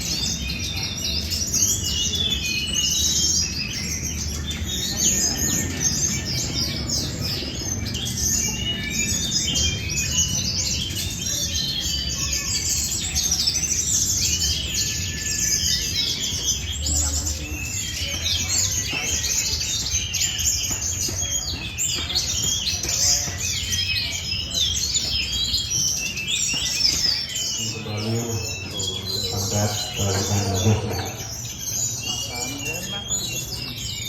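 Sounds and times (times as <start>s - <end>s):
songbirds chorus: 0.0s - 34.0s.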